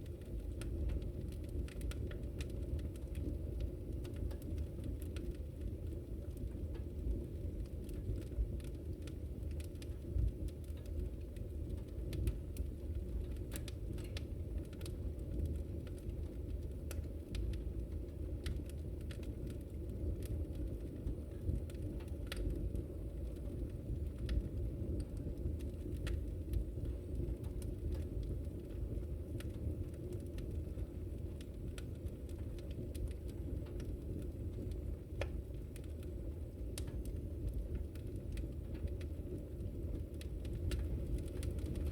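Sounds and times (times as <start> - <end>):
fire crackling: 0.0 - 41.9.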